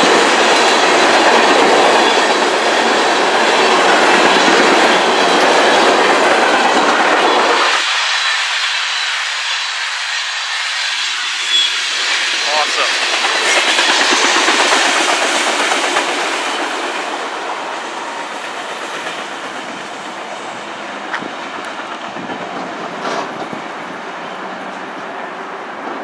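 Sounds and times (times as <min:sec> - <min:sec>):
freight train wheels clattering: 0:00.0 - 0:08.2, 0:11.4 - 0:26.0.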